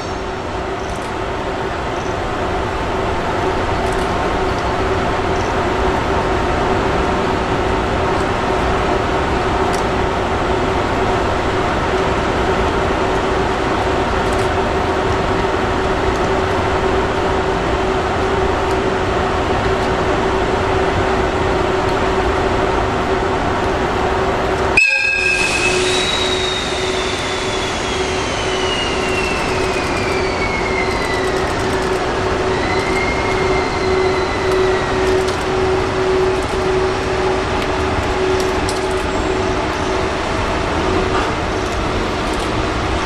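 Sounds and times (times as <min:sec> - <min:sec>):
train passing: 0:00.0 - 0:43.0
train wheel squeal: 0:00.0 - 0:43.0.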